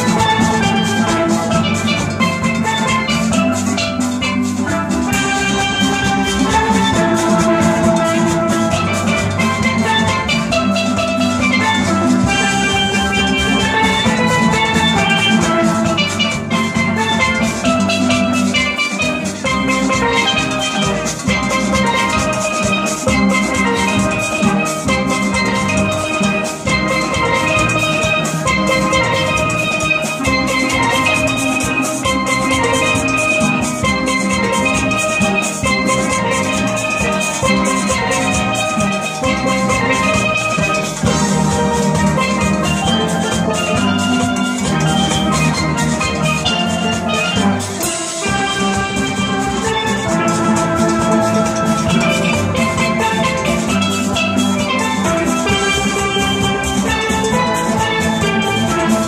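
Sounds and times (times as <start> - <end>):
steel band playing: 0.0 - 59.0.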